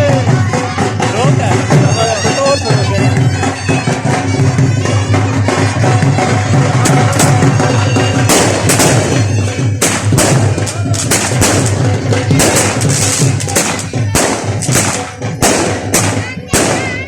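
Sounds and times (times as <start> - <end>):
droning wind instrument: 0.0 - 16.6
band music with drum: 0.0 - 17.0
firecracker bangs: 3.1 - 17.0.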